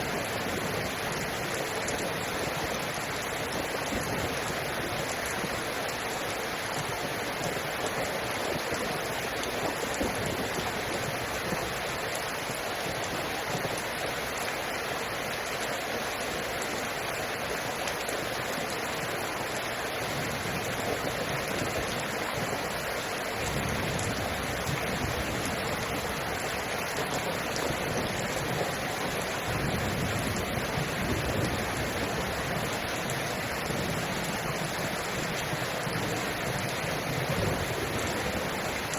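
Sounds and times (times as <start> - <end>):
rainwater rushing: 0.0 - 38.9.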